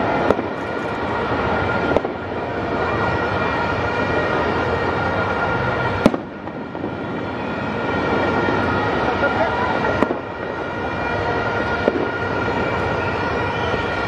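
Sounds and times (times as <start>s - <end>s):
fireworks barrage: 0.0s - 14.0s.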